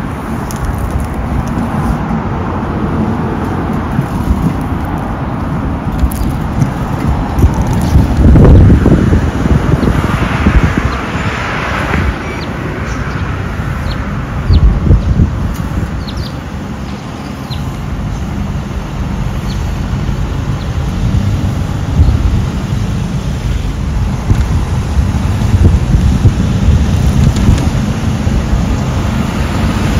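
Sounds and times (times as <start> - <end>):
street traffic: 0.0 - 29.9
wind buffeting microphone: 0.0 - 29.9.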